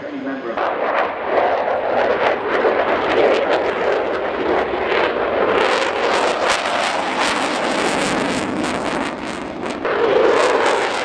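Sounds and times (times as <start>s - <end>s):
plane flying past roaring: 0.5s - 11.0s.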